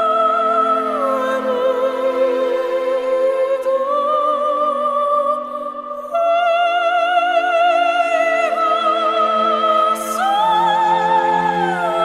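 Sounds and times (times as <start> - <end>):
operatic singing: 0.0 - 12.0.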